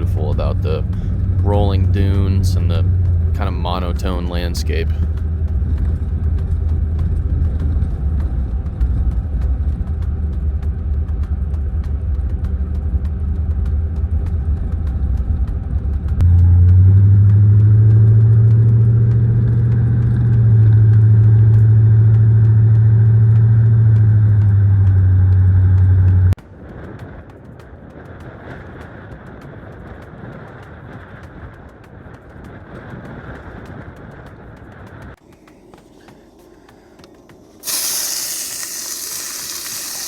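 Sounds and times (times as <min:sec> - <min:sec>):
vehicle engine and road drone: 0:00.0 - 0:40.0.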